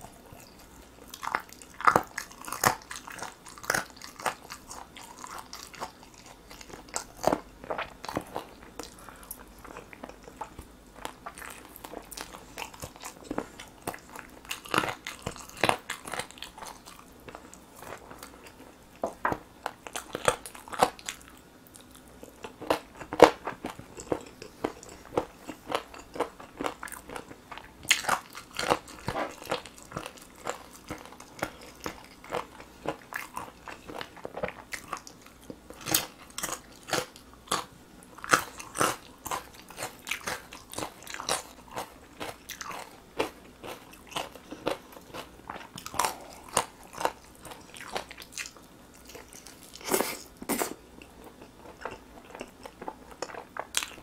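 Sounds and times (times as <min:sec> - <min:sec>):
person chewing crunchy chicken: 0:00.0 - 0:54.0.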